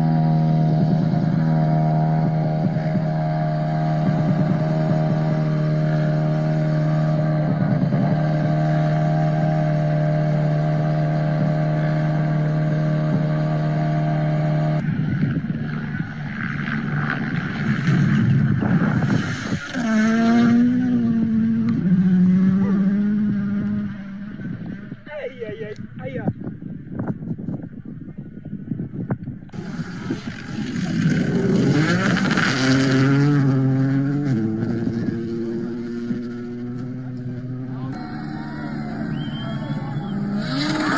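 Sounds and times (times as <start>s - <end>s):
engine running steadily: 0.0s - 40.9s
rough engine rumble: 0.0s - 40.9s.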